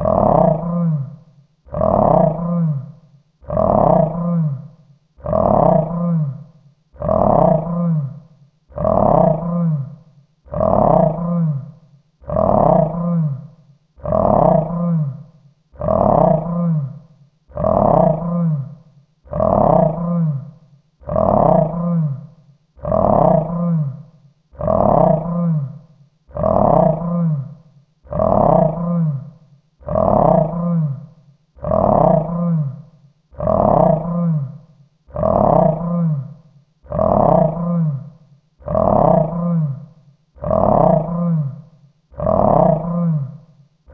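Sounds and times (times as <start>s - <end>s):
beast growl: 0.0s - 43.5s.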